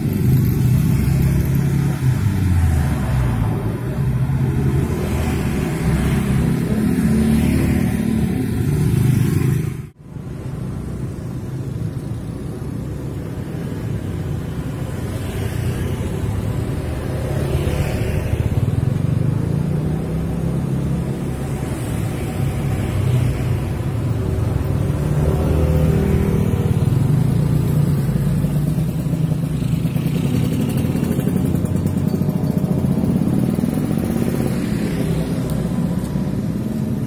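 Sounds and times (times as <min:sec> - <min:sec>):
cars passing: 0:00.0 - 0:37.0
motorcycles passing: 0:00.0 - 0:37.0.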